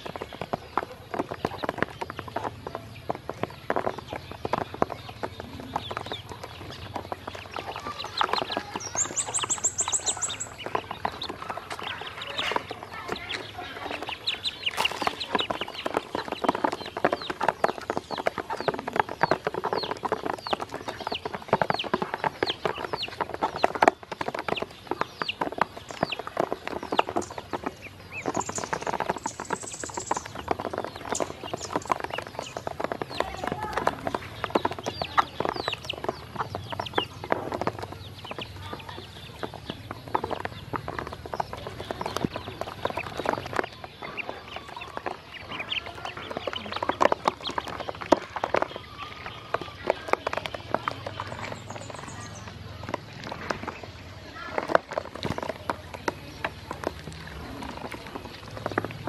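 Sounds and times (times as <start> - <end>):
ducklings peeping: 0.0 - 59.0.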